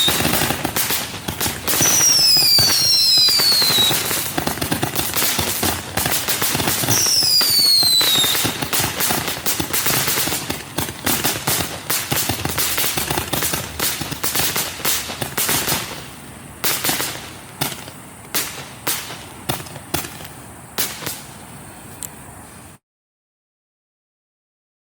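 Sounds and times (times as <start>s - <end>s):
firework bangs: 0.0s - 21.5s
firework crackling reports: 0.0s - 21.6s.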